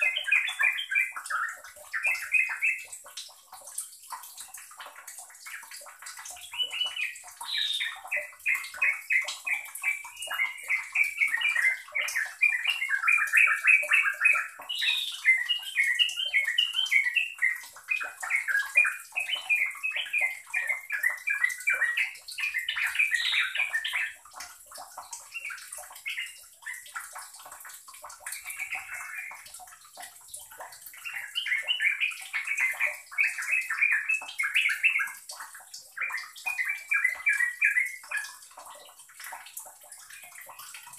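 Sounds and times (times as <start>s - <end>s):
bulbul singing bubbling chatter: 0.0s - 40.9s.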